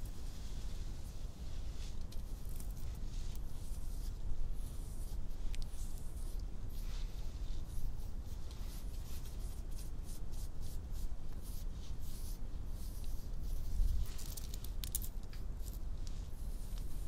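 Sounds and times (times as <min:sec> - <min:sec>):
hands rubbing and scratching: 0:00.0 - 0:17.0
low steady hum: 0:00.0 - 0:17.0.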